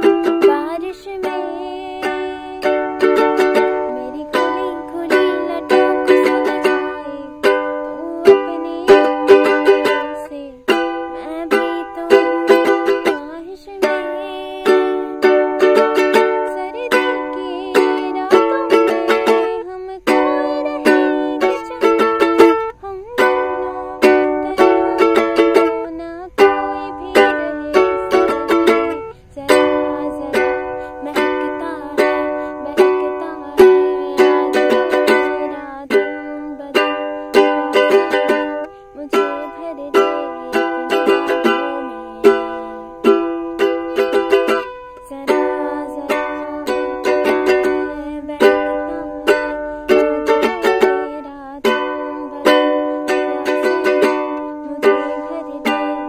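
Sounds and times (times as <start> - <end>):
ukulele strumming: 0.0 - 56.0.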